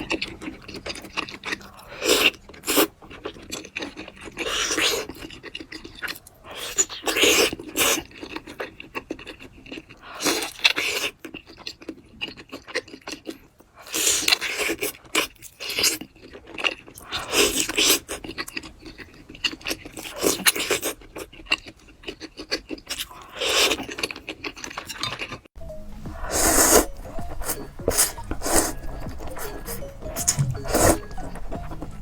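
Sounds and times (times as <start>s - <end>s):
wet chewing and crunching: 0.0s - 32.0s.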